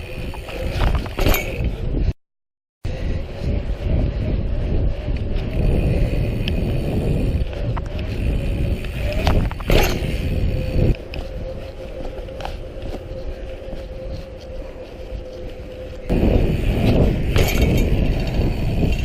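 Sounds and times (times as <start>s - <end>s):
bike tyre noise: 0.0s - 2.2s, 2.9s - 19.0s
wind rumble on microphone: 0.0s - 2.2s, 2.8s - 19.0s.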